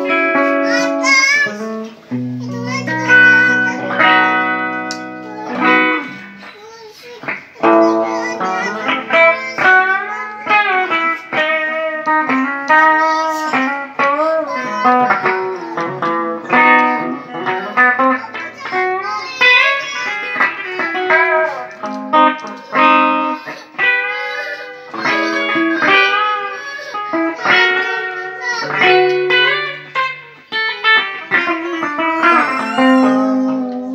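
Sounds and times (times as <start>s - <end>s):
electric guitar with bending notes: 0.0s - 33.9s.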